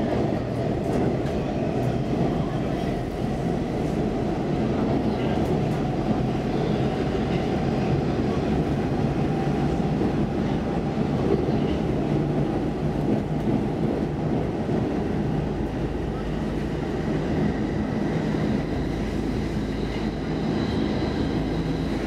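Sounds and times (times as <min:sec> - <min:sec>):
subway car rumbling through tunnel: 0:00.0 - 0:22.0.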